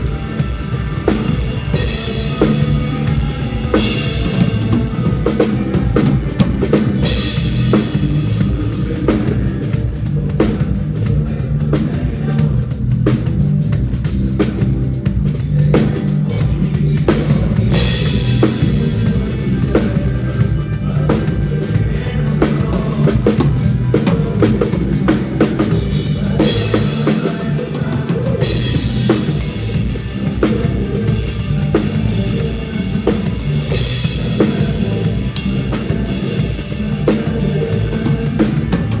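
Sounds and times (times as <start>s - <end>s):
band playing instrumental: 0.0s - 39.0s.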